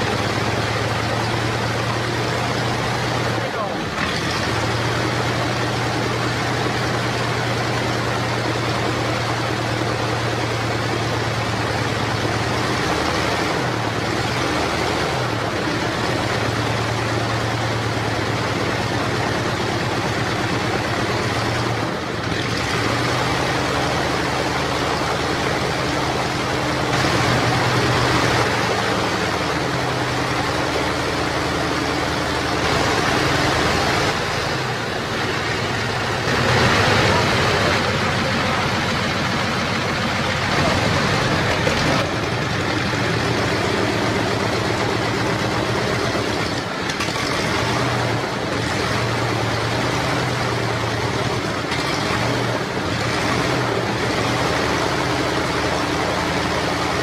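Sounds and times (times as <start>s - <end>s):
radial aero engine running: 0.0s - 57.0s.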